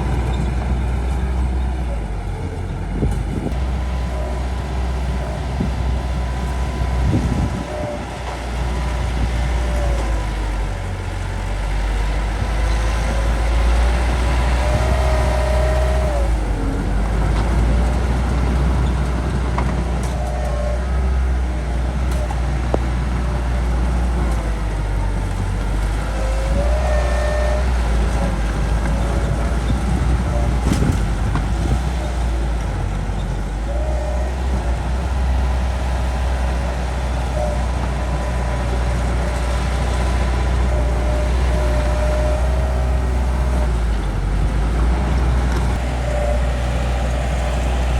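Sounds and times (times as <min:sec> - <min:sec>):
bulldozer diesel engine under load: 0:00.0 - 0:47.9.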